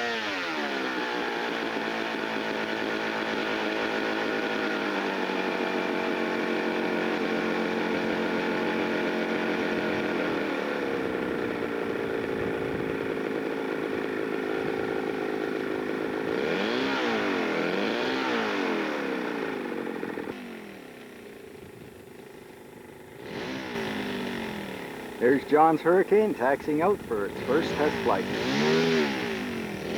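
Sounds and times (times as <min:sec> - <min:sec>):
model aircraft engine running: 0:00.0 - 0:29.9.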